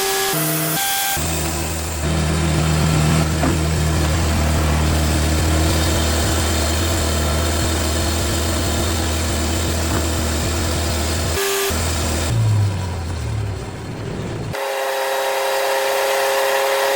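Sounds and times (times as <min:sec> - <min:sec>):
bandsaw sawmill humming: 0:00.0 - 0:16.9.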